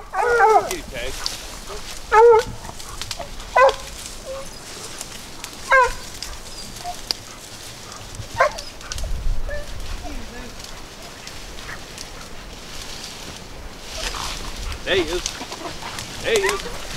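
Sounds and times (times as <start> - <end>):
dogs barking: 0.0 - 12.6, 14.0 - 16.9.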